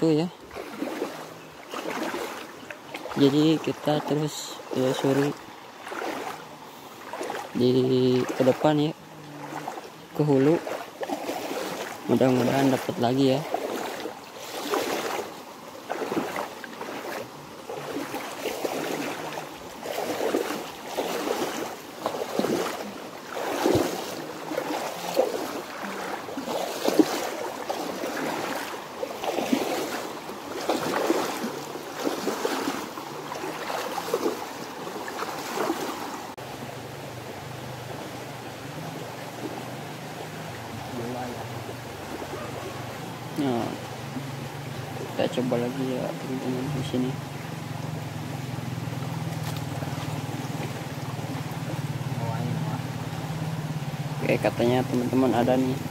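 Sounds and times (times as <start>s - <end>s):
stream rushing: 0.0s - 55.9s
water sloshing around wading legs: 0.0s - 55.9s.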